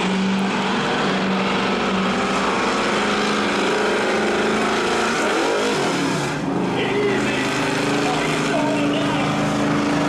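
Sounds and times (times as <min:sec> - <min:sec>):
drag racing engines at full throttle: 0:00.0 - 0:10.0.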